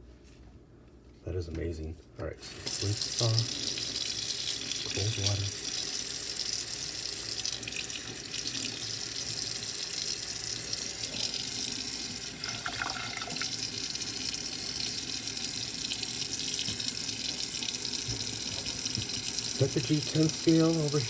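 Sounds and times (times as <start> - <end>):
water running from sink tap: 2.4 - 21.0.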